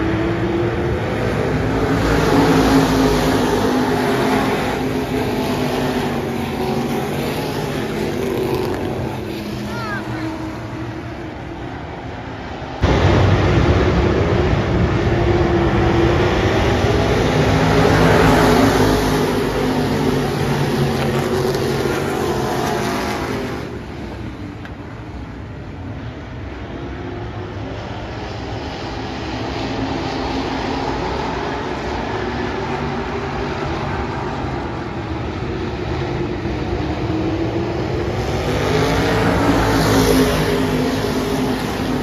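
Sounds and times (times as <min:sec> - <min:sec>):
race car engines: 0:00.0 - 0:42.0.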